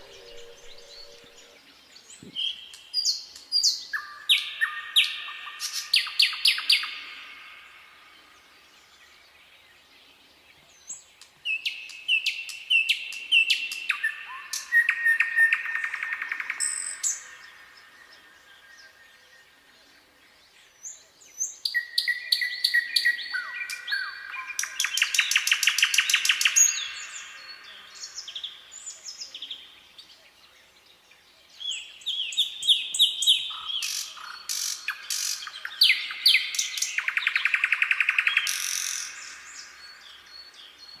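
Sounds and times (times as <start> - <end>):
nightingale singing: 0.0 - 7.9, 11.4 - 19.3, 20.9 - 30.3, 31.6 - 41.0.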